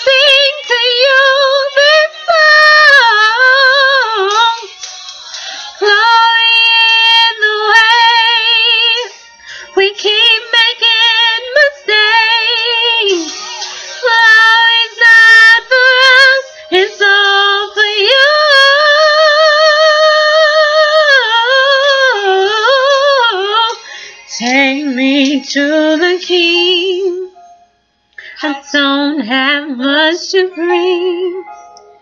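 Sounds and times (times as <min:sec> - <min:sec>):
woman singing unaccompanied: 0:00.0 - 0:27.4, 0:28.2 - 0:31.6.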